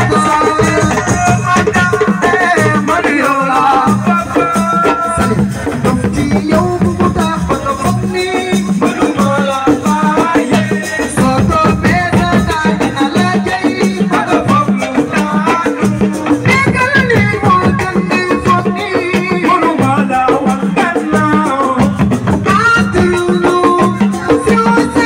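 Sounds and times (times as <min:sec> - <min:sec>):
band music with fast percussion: 0:00.0 - 0:25.0.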